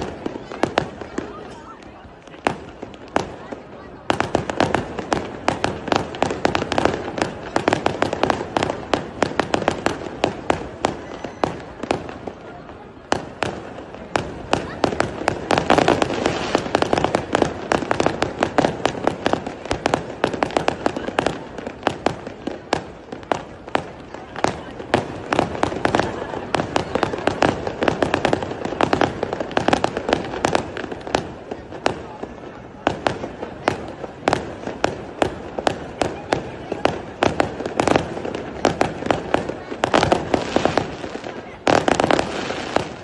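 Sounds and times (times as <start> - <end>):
fireworks crackling: 0.0 - 43.0.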